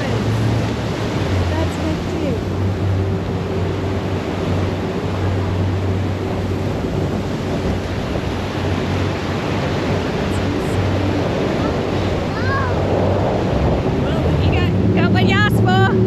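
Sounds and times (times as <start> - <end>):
jet boat engine running: 0.0 - 16.0
rushing turbulent water: 0.0 - 16.0
wind buffeting microphone: 0.0 - 16.0.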